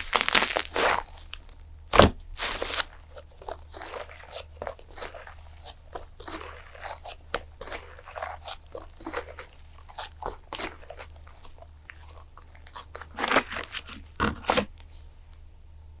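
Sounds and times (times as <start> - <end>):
slime crackling and popping: 0.0 - 14.8.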